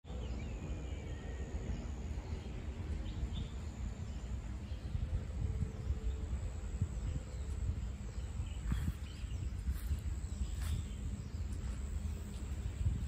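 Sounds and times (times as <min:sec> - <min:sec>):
low rumble on microphone: 0:00.1 - 0:13.0.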